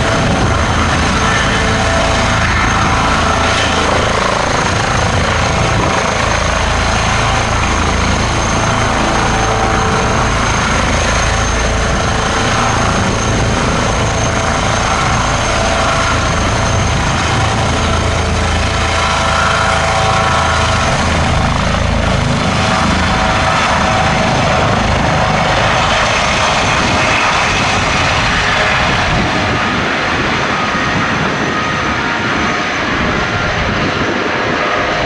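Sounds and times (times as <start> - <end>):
helicopter rotor and turbine: 0.0 - 35.0.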